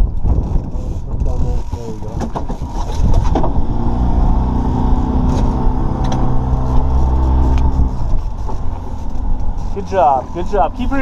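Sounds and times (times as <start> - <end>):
boat motor running: 1.2 - 11.0.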